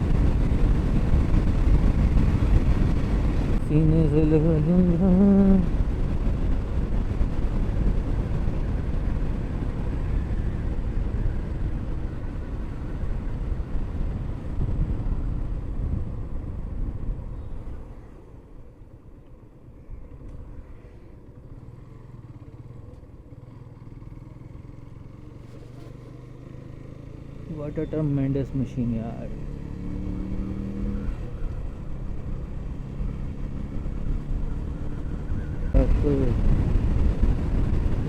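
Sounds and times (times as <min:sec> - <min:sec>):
motorcycle engine: 0:00.0 - 0:38.0
road noise: 0:00.0 - 0:38.0.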